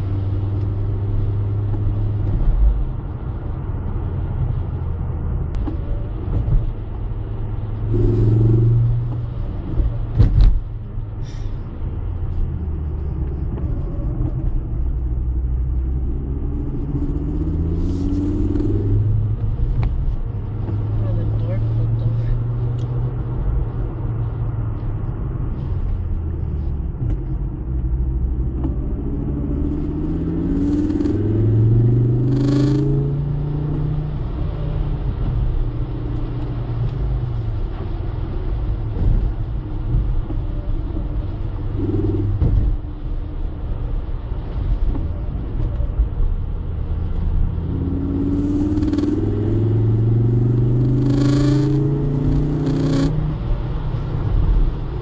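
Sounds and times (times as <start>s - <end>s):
car engine from inside cabin: 0.0s - 55.0s
road noise on wet road: 0.0s - 55.0s.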